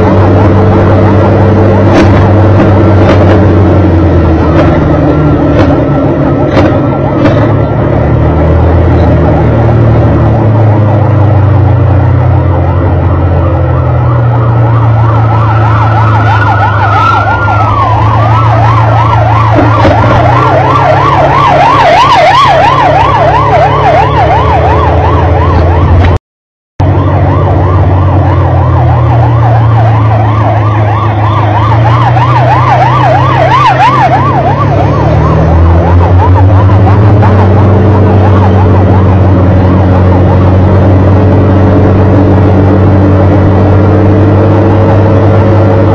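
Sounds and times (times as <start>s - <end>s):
engine rumble: 0.0s - 26.2s, 26.8s - 45.9s
fire engine siren: 0.0s - 26.2s, 26.8s - 45.9s.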